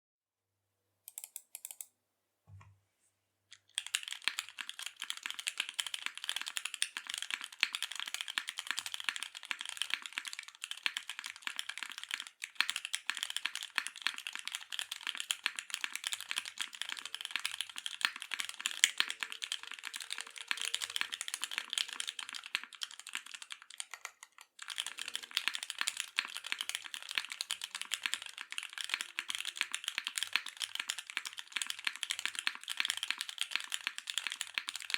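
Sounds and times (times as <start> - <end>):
mechanical keyboard typing: 1.1 - 1.9, 3.5 - 34.9.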